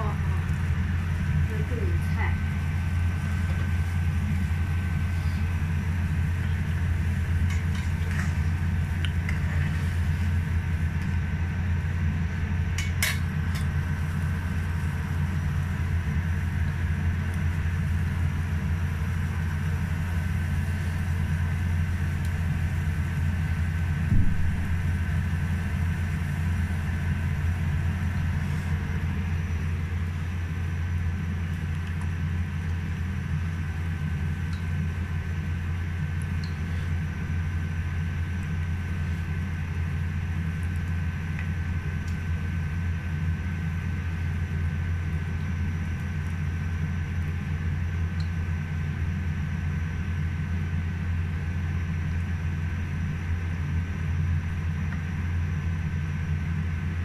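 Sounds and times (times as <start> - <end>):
gas stove burning: 0.0 - 57.0.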